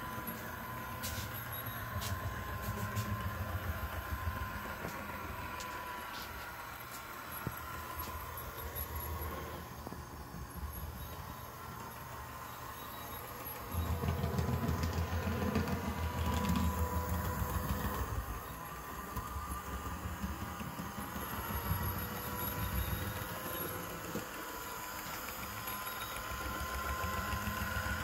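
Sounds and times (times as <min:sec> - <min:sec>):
model railcar humming: 0:00.0 - 0:28.0.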